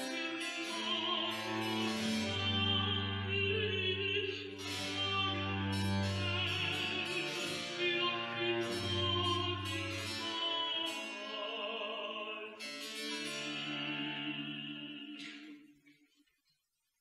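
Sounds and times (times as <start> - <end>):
opera singing: 0.0 - 15.7.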